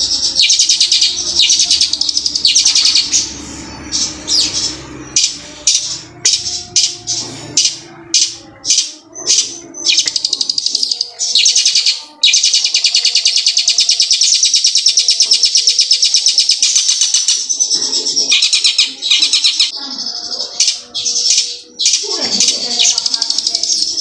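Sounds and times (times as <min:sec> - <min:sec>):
bird singing rapid trills: 0:00.0 - 0:24.0.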